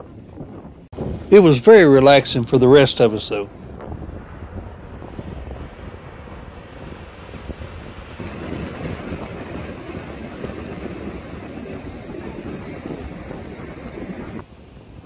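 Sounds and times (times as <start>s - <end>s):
ocean surf breaking: 1.0s - 14.5s.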